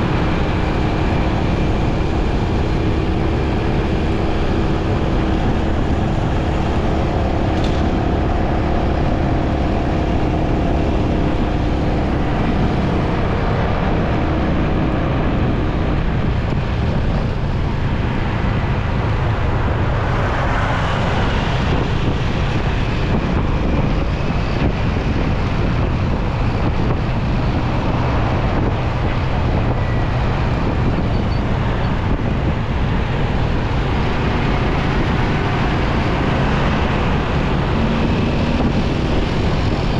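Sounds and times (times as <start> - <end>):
road noise: 0.0 - 39.9
vehicles running close by: 0.0 - 39.9.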